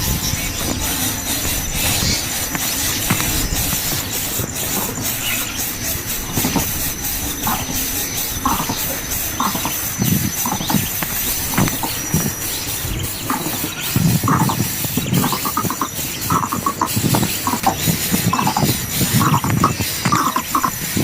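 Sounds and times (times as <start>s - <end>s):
nestlings begging calls: 0.0s - 21.0s
steady loud hiss: 0.0s - 21.0s.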